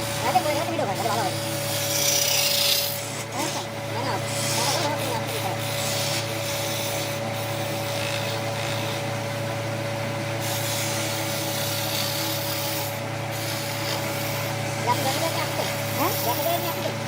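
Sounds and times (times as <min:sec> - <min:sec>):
power tool motor hum: 0:00.0 - 0:17.0
wood being worked hiss: 0:00.0 - 0:17.0.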